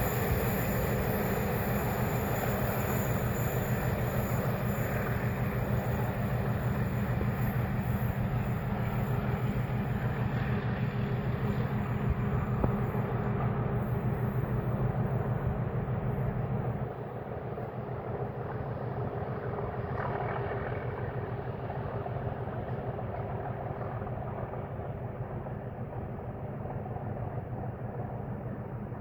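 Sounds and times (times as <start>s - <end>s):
diesel locomotive engine droning: 0.0s - 29.0s.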